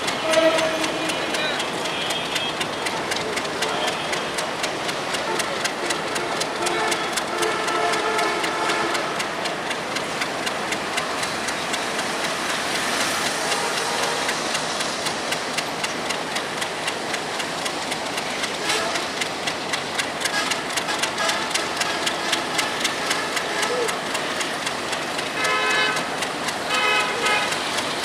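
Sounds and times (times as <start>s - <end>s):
train rumbling on track: 0.0s - 28.0s
wheels clicking over rail joints: 0.0s - 28.0s.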